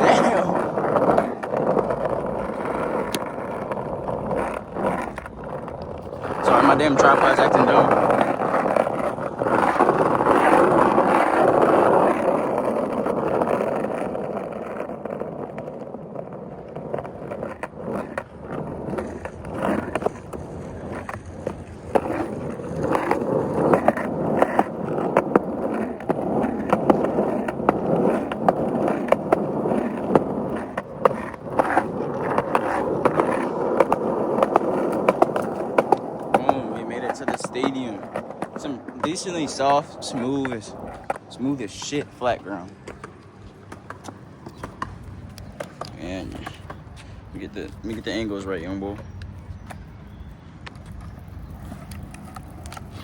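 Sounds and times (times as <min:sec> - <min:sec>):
skateboard wheels rolling on pavement: 0:00.0 - 0:53.0
wheels clicking over cracks: 0:00.0 - 0:53.0.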